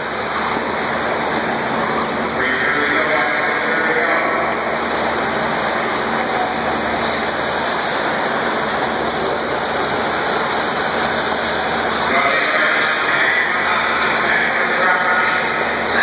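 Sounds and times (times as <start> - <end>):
radio-controlled cars racing: 0.0 - 16.0.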